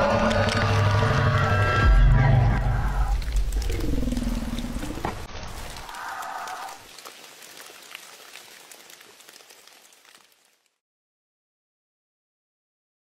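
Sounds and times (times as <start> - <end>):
crackling hissing noise: 0.0 - 10.8.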